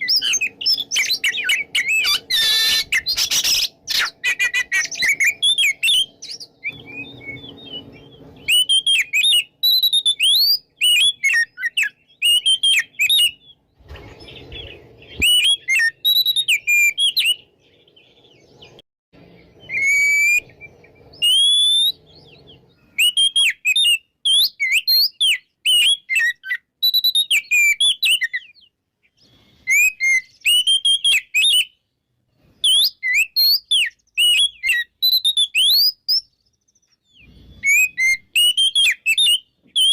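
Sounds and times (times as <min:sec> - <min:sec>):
magpie-robin whistled song: 0:00.0 - 0:39.9.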